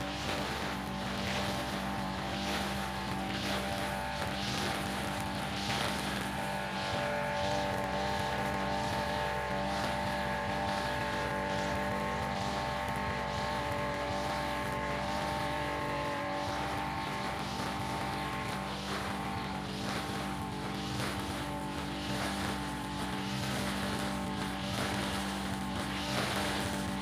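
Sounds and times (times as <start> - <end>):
string trimmer engine running: 0.0 - 27.0.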